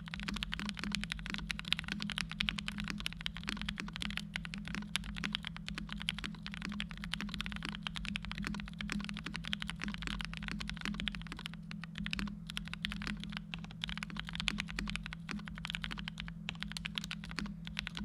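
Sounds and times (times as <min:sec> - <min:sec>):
mechanical keyboard typing: 0:00.0 - 0:18.0
steady low hum: 0:00.0 - 0:18.0.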